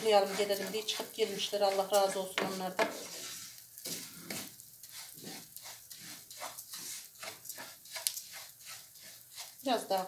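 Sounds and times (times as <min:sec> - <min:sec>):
light sizzle: 0:00.0 - 0:10.0
spoon scraping a pot: 0:00.0 - 0:10.0.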